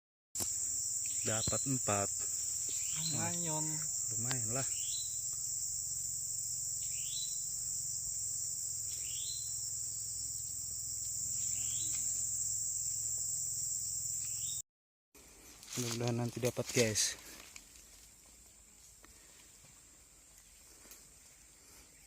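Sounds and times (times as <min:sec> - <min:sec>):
crickets chirping: 0:00.4 - 0:14.6, 0:15.4 - 0:22.0.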